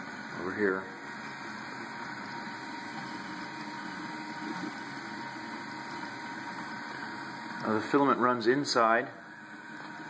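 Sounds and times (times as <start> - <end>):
three d printer whirring: 0.0 - 10.0.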